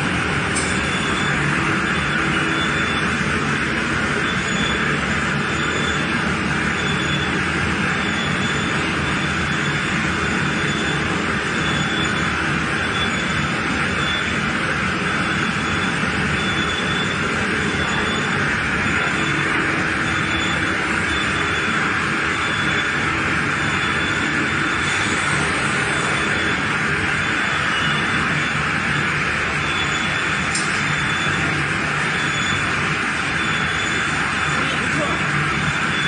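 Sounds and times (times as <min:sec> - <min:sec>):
steady machine noise: 0:00.0 - 0:36.0.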